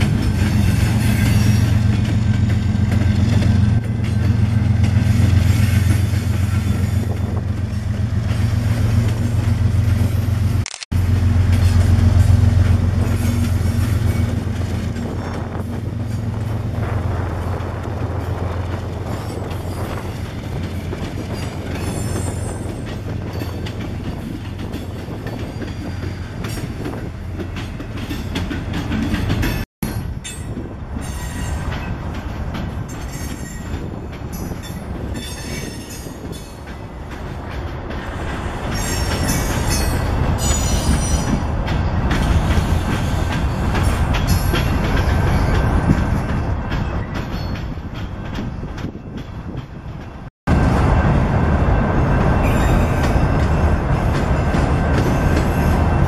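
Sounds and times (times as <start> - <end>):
diesel locomotive engine droning: 0.0 - 56.0
freight cars rumbling: 0.0 - 56.0.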